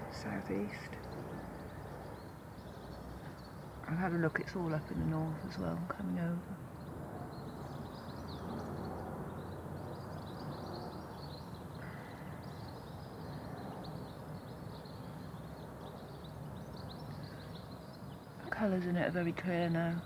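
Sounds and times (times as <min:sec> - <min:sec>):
birds chirping and twittering: 0:00.0 - 0:20.0.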